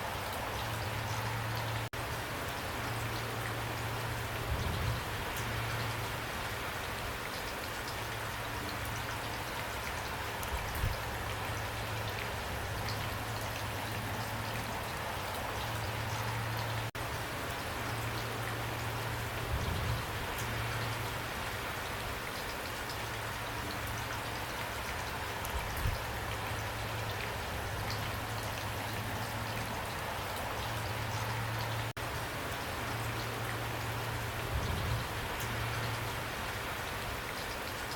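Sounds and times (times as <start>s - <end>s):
heavy rain pouring: 0.0s - 37.9s.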